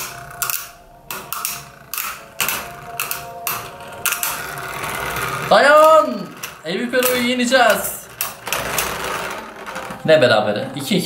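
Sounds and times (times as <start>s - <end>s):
spinning tops clashing: 0.0s - 11.0s
spinning tops whirring: 0.0s - 11.0s.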